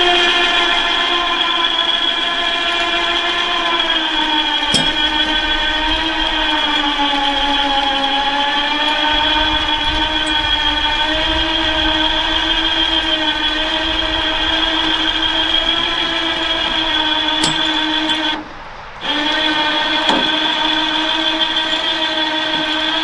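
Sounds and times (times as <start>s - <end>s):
electric winch motor whining: 0.0s - 23.0s.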